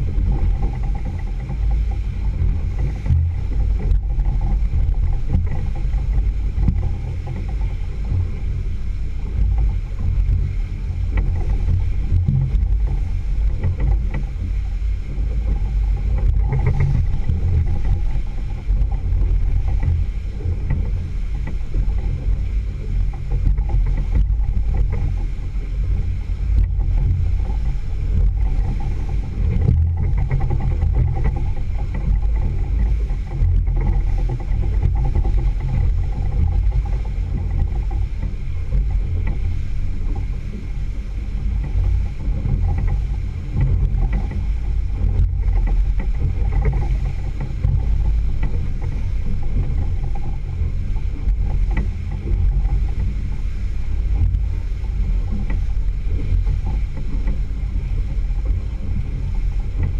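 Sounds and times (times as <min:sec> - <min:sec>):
faint steady whine: 0:00.0 - 0:59.9
outboard motor running: 0:00.0 - 0:59.9
water rushing along hull: 0:00.0 - 0:59.9.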